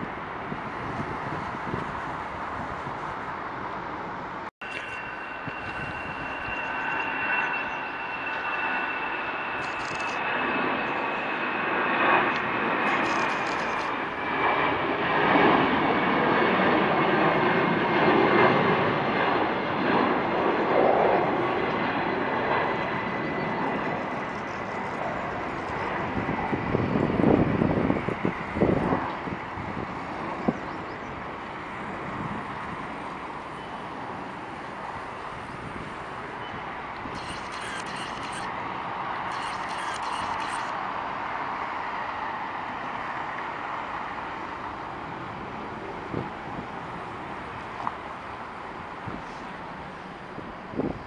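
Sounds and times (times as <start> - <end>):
jet engines whining and rumbling: 0.0 - 51.0.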